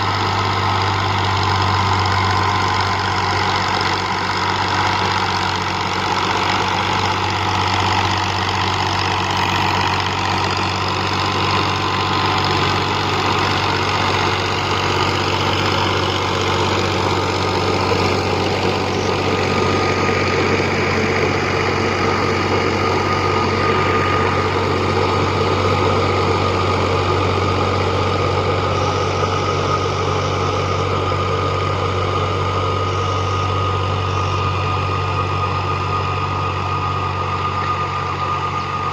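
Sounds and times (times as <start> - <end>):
thin steady whine: 0.0 - 38.9
tractor diesel engine running: 0.0 - 38.9.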